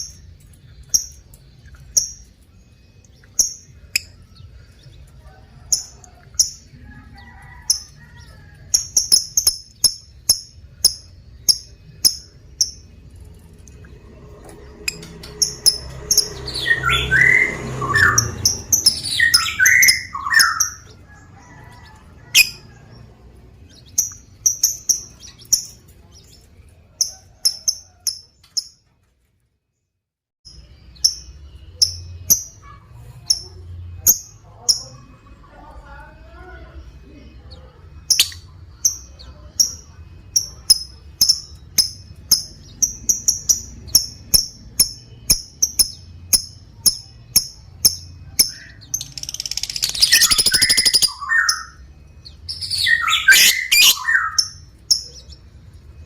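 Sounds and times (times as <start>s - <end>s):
lovebird chirping: 0.0s - 13.9s, 14.5s - 28.8s, 36.8s - 56.0s.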